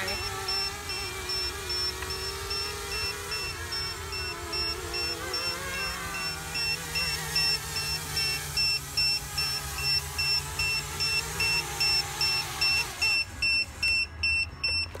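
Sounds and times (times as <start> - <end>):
high electronic beeping: 0.0 - 15.0
quadcopter propellers whirring: 0.0 - 15.0.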